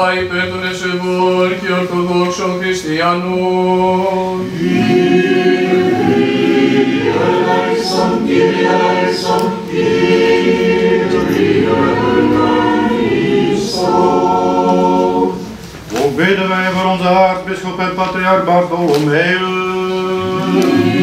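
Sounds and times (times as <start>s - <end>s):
church choir singing in harmony: 0.0s - 16.2s, 19.4s - 21.0s.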